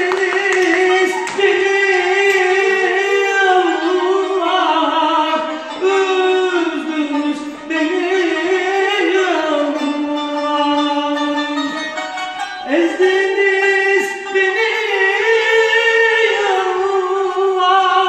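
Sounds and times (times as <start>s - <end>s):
man singing ornamented notes: 0.0s - 18.0s
kanun zither playing: 0.8s - 15.9s.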